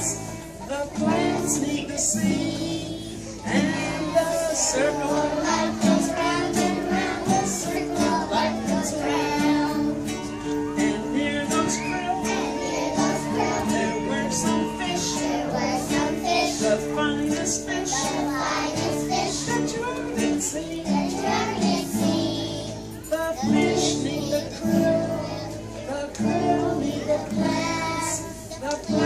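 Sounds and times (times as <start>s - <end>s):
children singing together: 0.0s - 29.0s
strummed acoustic guitar: 0.0s - 29.0s.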